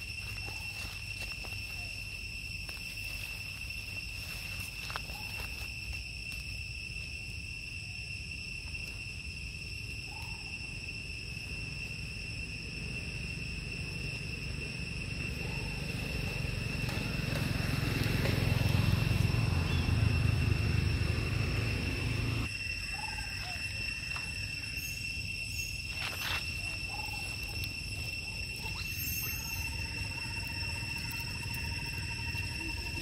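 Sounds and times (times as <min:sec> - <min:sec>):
high-pitched insect drone: 0:00.0 - 0:33.0.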